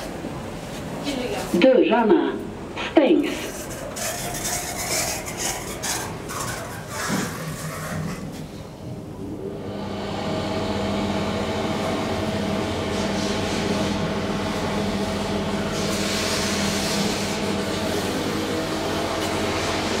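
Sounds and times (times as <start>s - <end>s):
elevator mechanical hum: 0.0s - 20.0s.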